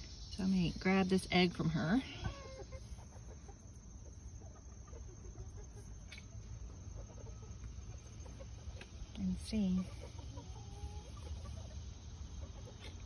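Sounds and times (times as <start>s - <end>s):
hen clucking faintly: 1.0s - 13.0s.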